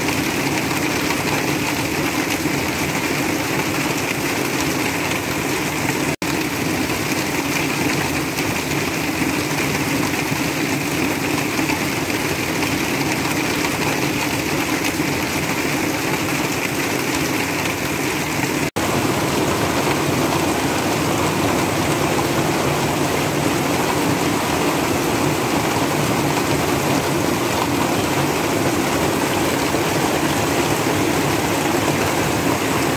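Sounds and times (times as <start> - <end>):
heavy rain on a roof: 0.0 - 32.9
water running off roof edge: 0.0 - 32.9.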